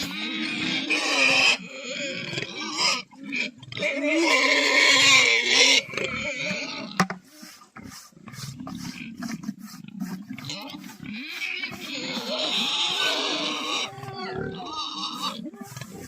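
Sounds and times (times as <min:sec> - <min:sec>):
pigs squealing: 0:00.0 - 0:07.0, 0:08.4 - 0:16.0
pigs grunting: 0:00.0 - 0:16.0.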